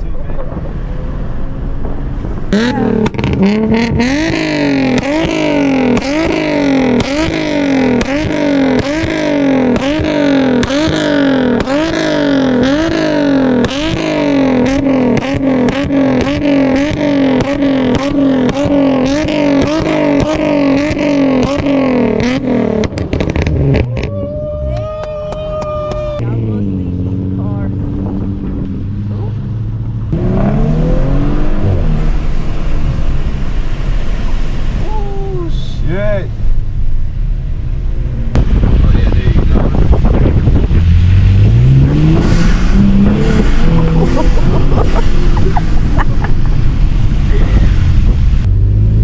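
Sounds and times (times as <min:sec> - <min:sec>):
car engine revving in throttle blips: 0:00.0 - 0:49.0
exhaust crack: 0:00.0 - 0:49.0.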